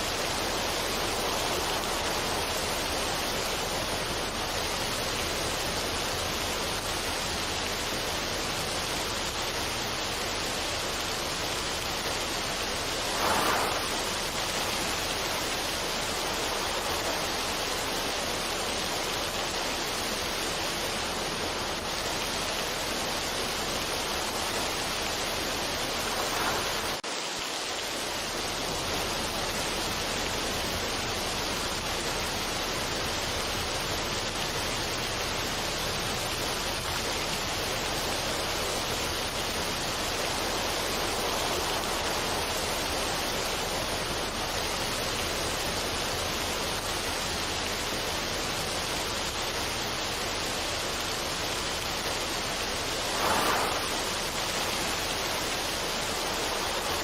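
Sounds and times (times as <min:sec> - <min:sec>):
steady rushing noise: 0:00.0 - 0:33.8, 0:34.4 - 0:57.0.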